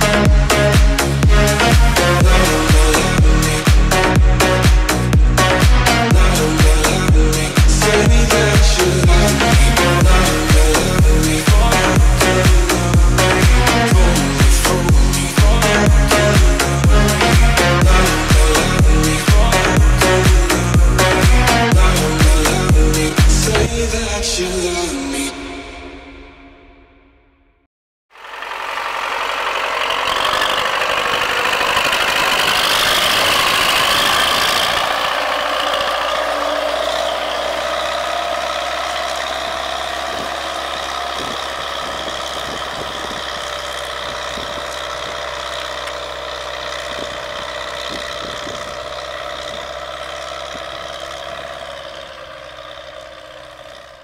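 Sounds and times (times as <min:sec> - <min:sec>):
tractor diesel engine running: 0:00.0 - 0:25.7, 0:28.1 - 0:54.0.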